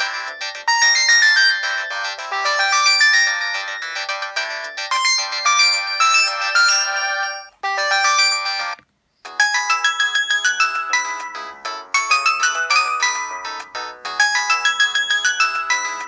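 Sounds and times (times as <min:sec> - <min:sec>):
synthesized ringtone melody: 0:00.0 - 0:16.0.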